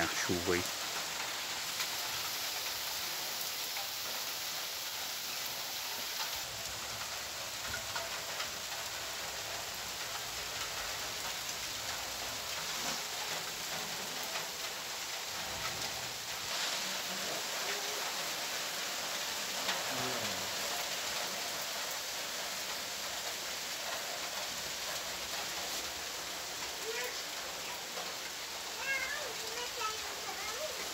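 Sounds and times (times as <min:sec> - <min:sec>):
raindrop ticks: 0:00.0 - 0:30.9
steady rain hiss: 0:00.0 - 0:30.9.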